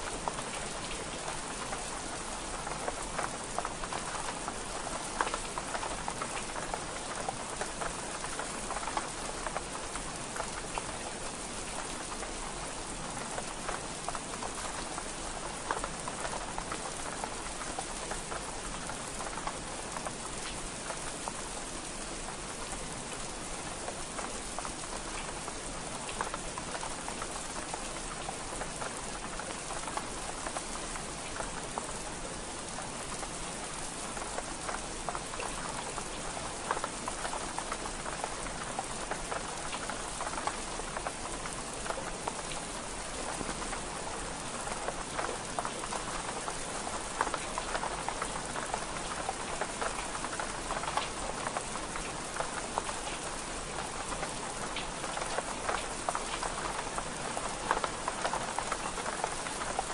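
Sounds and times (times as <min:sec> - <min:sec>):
rain on window glass: 0:00.0 - 0:59.9.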